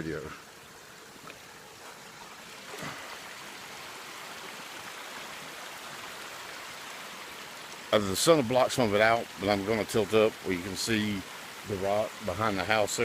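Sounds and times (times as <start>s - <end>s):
waterfall running over rocks: 0.0s - 13.0s.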